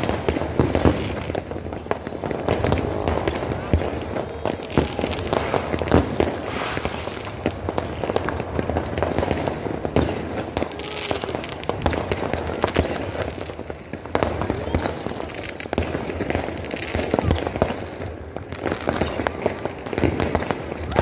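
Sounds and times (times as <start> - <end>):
fireworks bangs and crackling pops: 0.0 - 21.0.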